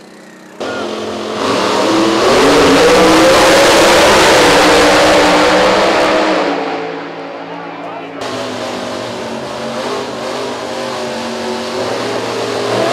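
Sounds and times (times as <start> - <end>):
dragster engine at full throttle: 0.0 - 12.9.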